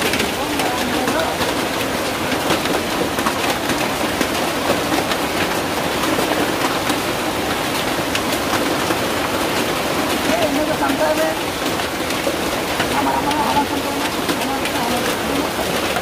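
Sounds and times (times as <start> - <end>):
hailstones clicking: 0.0 - 16.0
heavy rain on roof: 0.0 - 16.0.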